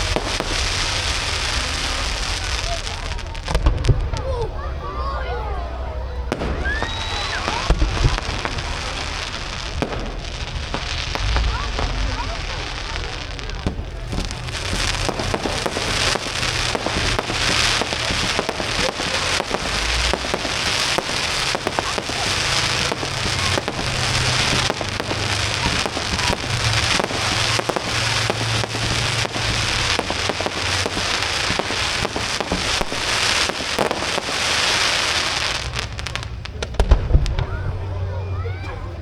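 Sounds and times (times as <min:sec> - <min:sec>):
fireworks crackling: 0:00.0 - 0:39.0.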